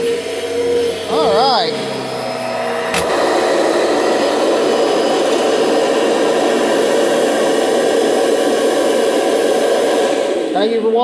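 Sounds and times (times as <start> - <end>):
upright vacuum cleaner running: 0.0 - 11.0.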